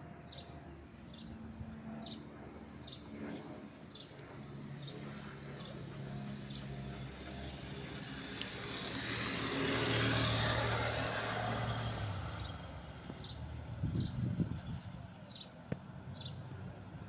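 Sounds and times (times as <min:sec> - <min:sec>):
propeller plane flying overhead: 0:00.0 - 0:17.0.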